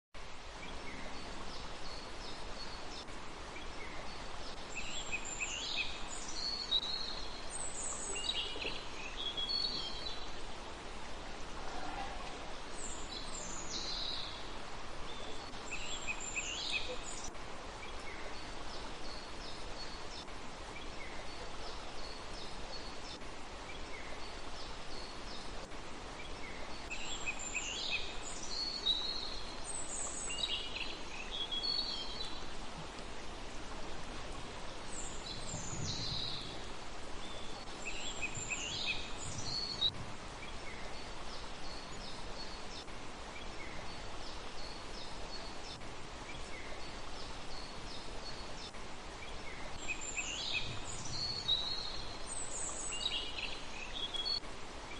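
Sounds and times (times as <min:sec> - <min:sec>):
songbirds chirping: 0:00.2 - 0:54.9
steady rushing hiss: 0:00.2 - 0:54.9.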